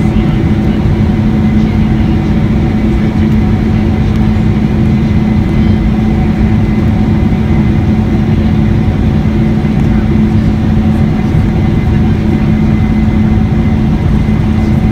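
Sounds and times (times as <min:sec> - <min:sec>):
jet engines droning: 0:00.0 - 0:14.9.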